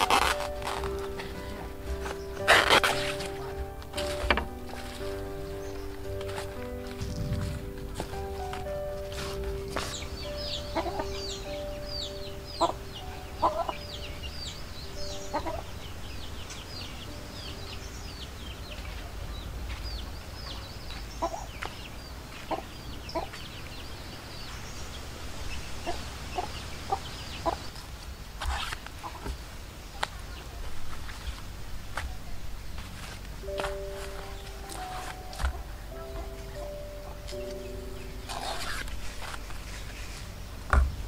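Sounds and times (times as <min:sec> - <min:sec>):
chickens clucking: 0:00.0 - 0:24.6, 0:25.6 - 0:27.9, 0:29.0 - 0:31.4, 0:32.8 - 0:40.8.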